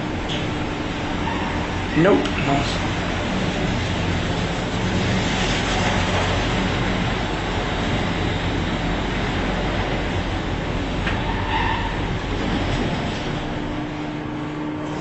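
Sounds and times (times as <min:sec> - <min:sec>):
lift car running noise: 0:00.0 - 0:15.0.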